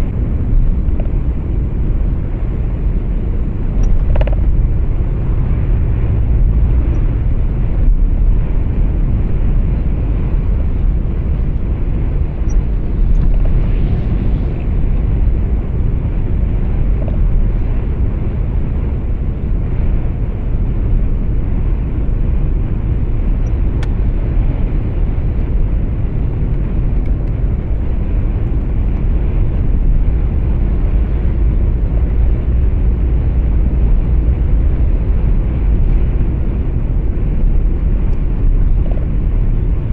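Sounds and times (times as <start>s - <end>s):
road and engine rumble in truck: 0.0s - 39.9s.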